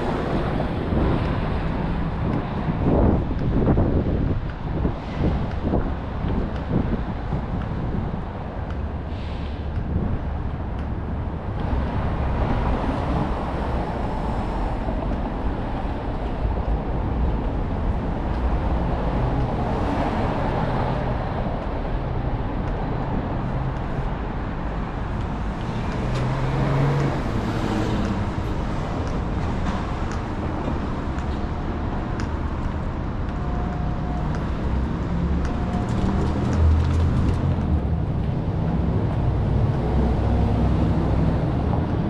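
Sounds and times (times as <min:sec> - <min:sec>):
passing cars rumbling: 0:00.0 - 0:42.0
vehicle engine hum: 0:00.0 - 0:42.0.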